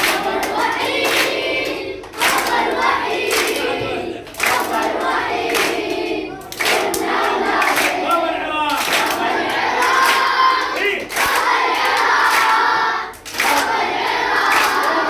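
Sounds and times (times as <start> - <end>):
children chanting in unison: 0.0 - 15.0
hand claps: 0.0 - 15.0.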